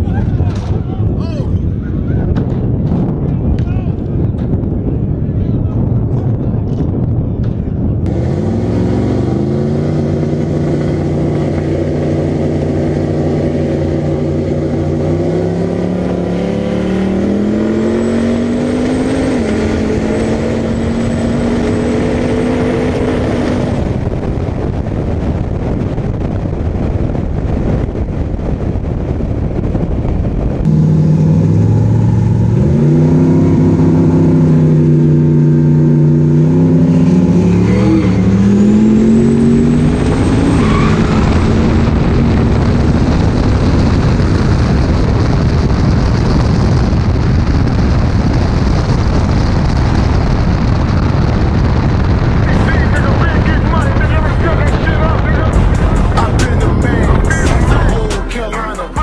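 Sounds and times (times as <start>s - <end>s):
drag car engine accelerating: 7.9s - 59.0s.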